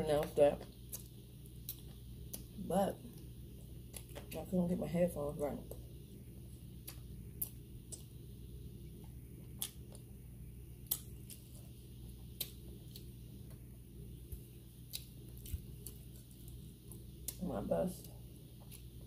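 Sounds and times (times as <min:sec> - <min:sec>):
steady low hum: 0:00.0 - 0:19.0
quiet chewing: 0:00.2 - 0:04.4, 0:05.6 - 0:19.0.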